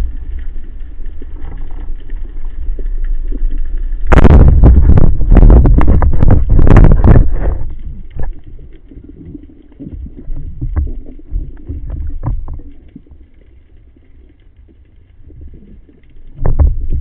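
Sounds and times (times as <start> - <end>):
underwater water rumble: 0.0 - 17.0.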